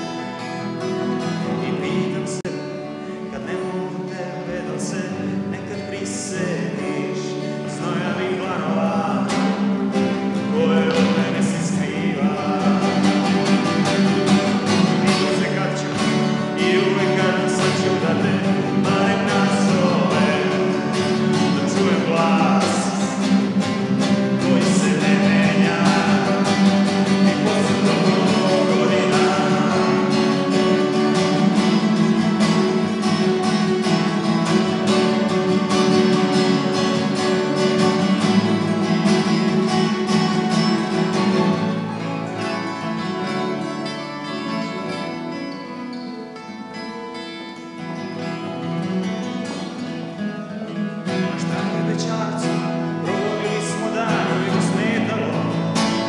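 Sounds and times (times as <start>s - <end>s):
acoustic guitar duet: 0.0s - 56.0s.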